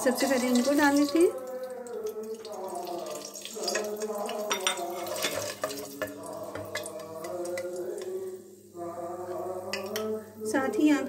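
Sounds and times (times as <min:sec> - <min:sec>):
spices frying in hot oil: 0:00.0 - 0:11.0.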